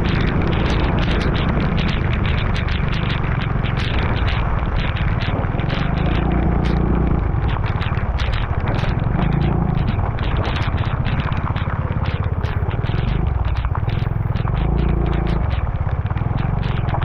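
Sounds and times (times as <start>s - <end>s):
engine and wind rumble: 0.0s - 17.0s
raindrops ticking on camera: 0.0s - 17.0s.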